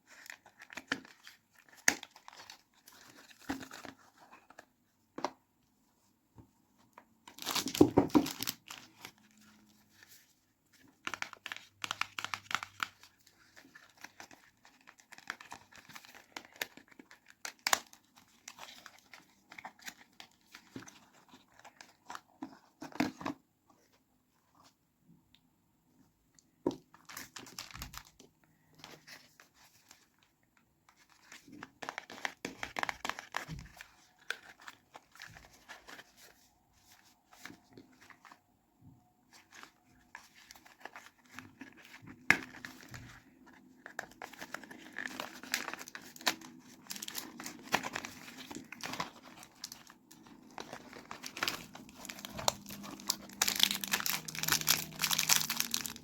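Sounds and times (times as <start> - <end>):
packaging crinkling and tearing: 0.1 - 4.6, 7.3 - 10.1, 10.9 - 23.2, 27.0 - 30.0, 31.1 - 38.4, 39.3 - 56.0.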